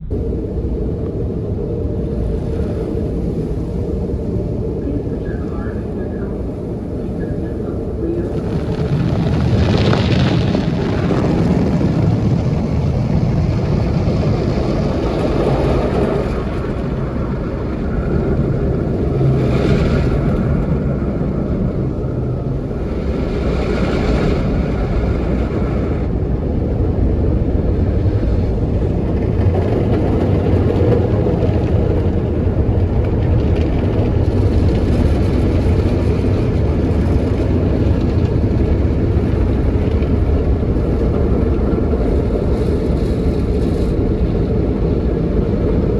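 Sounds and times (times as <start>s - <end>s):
car wash rumble of water and machinery: 0.0s - 45.9s.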